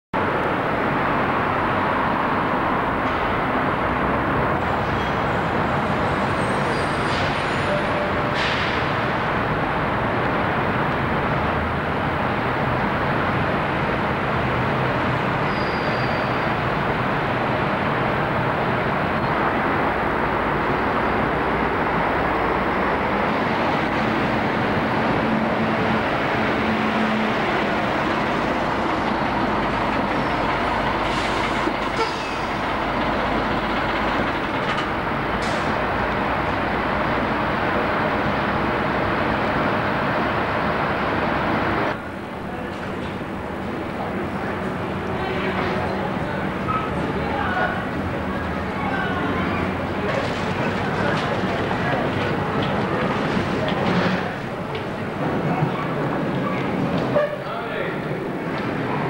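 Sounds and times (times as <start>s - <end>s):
bus engines running: 0.2s - 59.0s.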